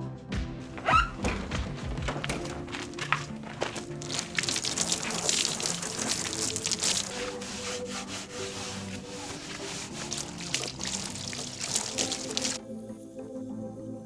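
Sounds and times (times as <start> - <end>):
rubbing strokes: 0.6 - 12.6
water splashing: 0.6 - 12.6.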